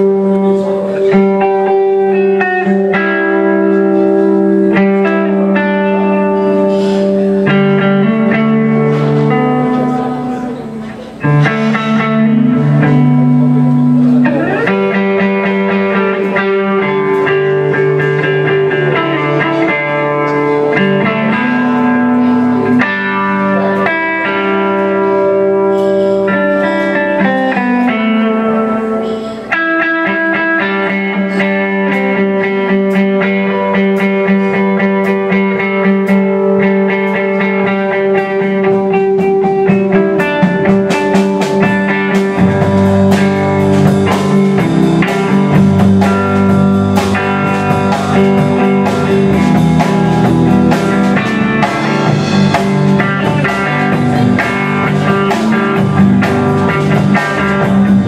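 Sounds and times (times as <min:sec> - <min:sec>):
drums and cymbals: 0:00.0 - 0:30.0, 0:30.6 - 0:58.0
electric guitars ringing: 0:00.0 - 0:58.0.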